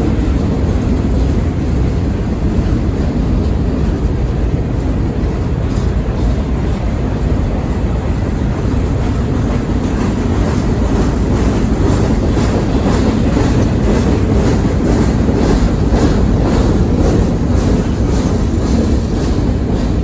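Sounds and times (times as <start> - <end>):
freight train rolling past: 0.0 - 20.0.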